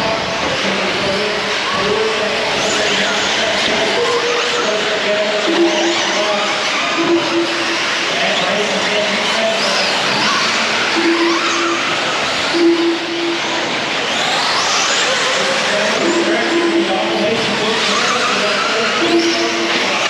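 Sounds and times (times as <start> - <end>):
steady rush of noise: 0.0 - 20.0
rc car motors whining: 0.2 - 20.0.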